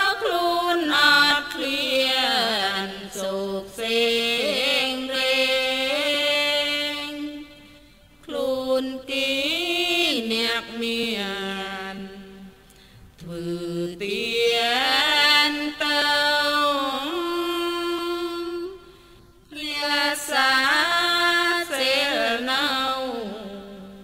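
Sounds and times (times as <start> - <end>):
person chanting melodically: 0.0 - 12.6, 13.2 - 18.9, 19.5 - 24.0.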